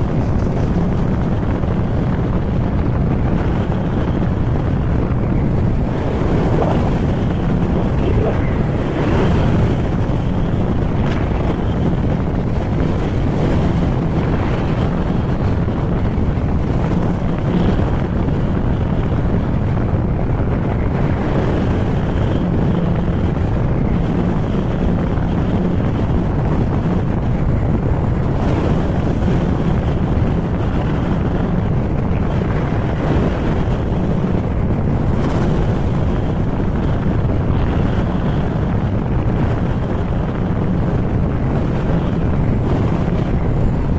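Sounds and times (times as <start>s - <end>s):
scooter engine running: 0.0s - 38.9s
wind rushing over microphone: 0.0s - 43.9s.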